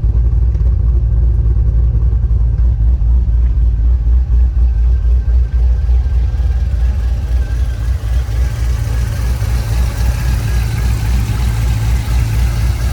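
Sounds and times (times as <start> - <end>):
car engine choppy low rumble: 0.0 - 12.9.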